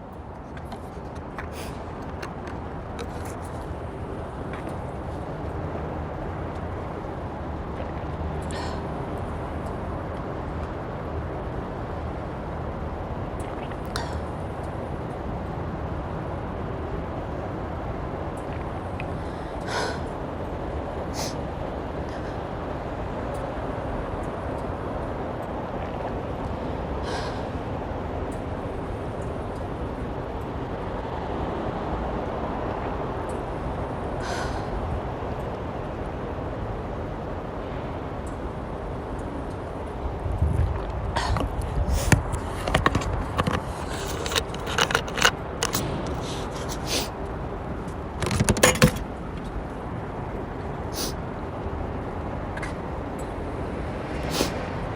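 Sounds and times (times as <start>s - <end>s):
low rumbling noise: 0.0s - 54.9s.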